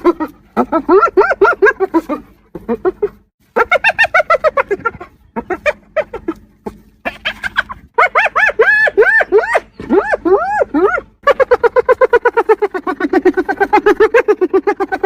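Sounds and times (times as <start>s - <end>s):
hyena laughing yelps: 0.0s - 15.0s.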